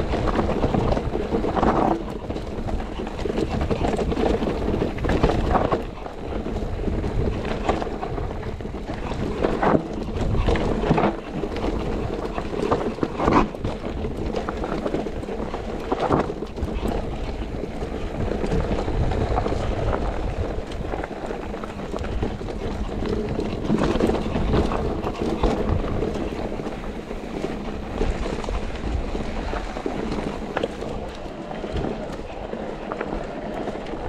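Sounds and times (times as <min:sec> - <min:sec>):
rolling tyre noise: 0:00.0 - 0:34.0
wind rushing on microphone: 0:00.0 - 0:34.0.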